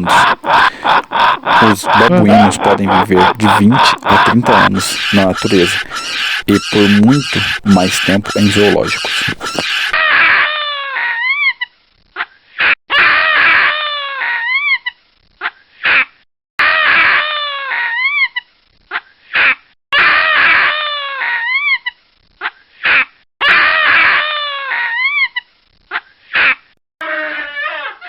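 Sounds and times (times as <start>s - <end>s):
baboon screaming and squealing: 0.0s - 11.7s, 12.6s - 15.0s, 15.8s - 25.5s, 26.4s - 28.0s.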